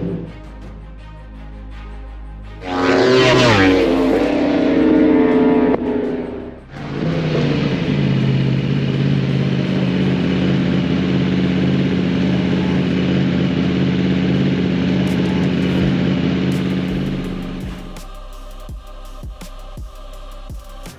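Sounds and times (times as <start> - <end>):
motorcycle engine running: 2.6 - 20.9.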